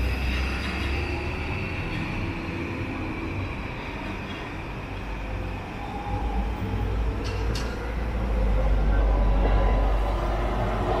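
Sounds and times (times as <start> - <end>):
train rumbling on tracks: 0.0 - 11.0.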